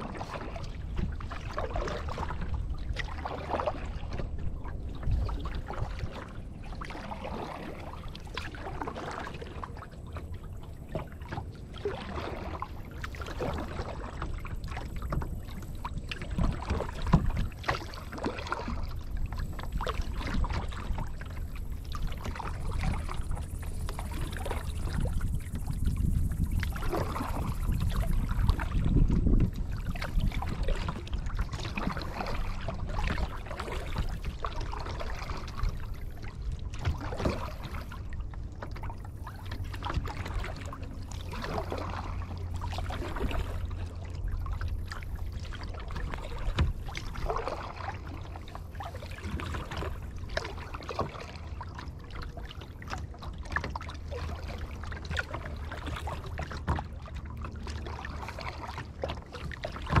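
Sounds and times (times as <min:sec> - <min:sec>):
low steady rumble: 0:00.0 - 1:00.0
paddle splashing in water: 0:00.0 - 1:00.0.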